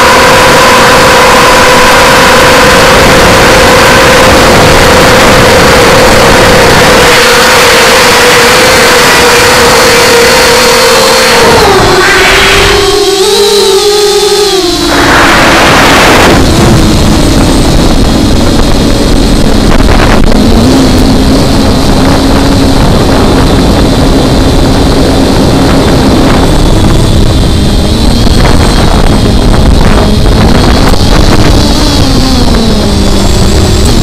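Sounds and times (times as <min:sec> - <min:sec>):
model aircraft motor droning: 0:00.0 - 0:34.0
wind rush on microphone: 0:00.0 - 0:34.0.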